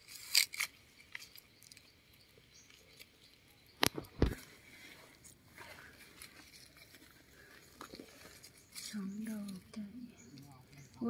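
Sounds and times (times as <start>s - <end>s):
rustling in dry leaf litter: 0.0s - 11.0s.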